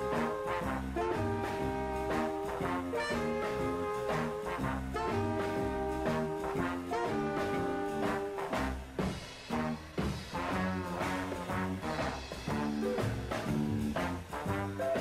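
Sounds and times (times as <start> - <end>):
swing jazz with brass: 0.0 - 15.0.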